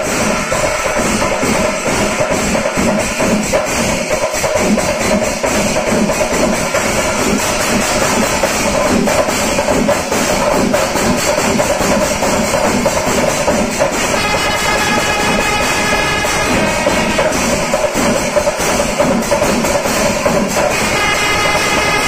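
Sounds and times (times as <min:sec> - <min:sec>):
drums and cymbals ensemble: 0:00.0 - 0:22.0.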